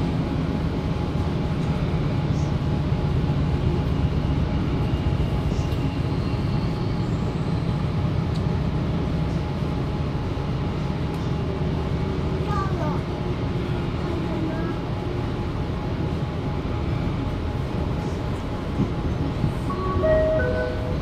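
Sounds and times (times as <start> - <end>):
train carriage rumbling on track: 0.0 - 21.0.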